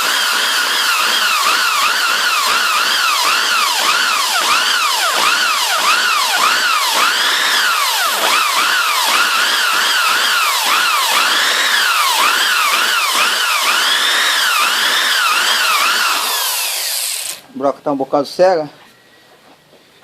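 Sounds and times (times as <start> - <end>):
electric drill boring through steel: 0.0 - 17.5.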